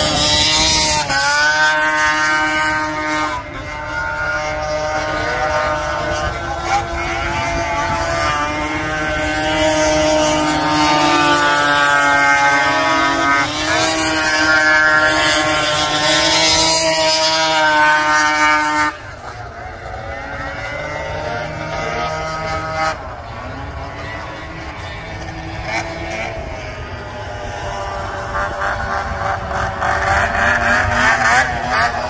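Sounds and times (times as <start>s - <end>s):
snowmobile engines whining: 0.0s - 32.0s.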